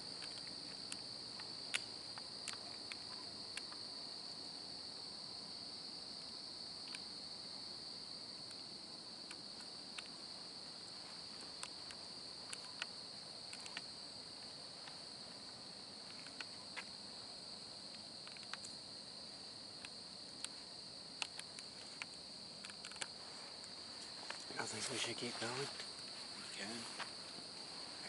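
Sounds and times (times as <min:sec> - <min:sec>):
night insects chorus: 0:00.0 - 0:28.0.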